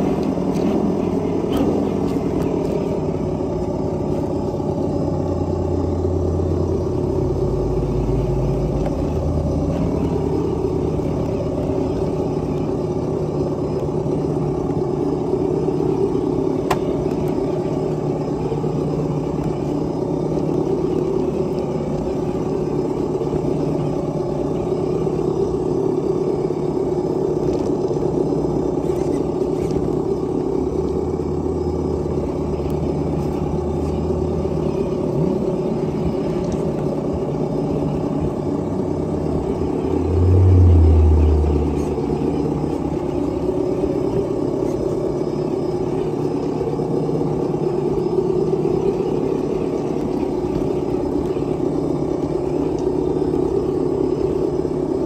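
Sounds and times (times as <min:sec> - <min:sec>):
simulated truck engine sound: 0:00.0 - 0:55.0.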